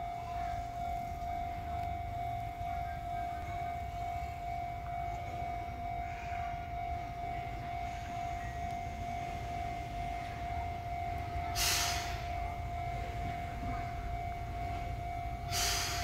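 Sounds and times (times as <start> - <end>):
level crossing warning bell: 0.0 - 16.0
train pulling away: 0.0 - 16.0.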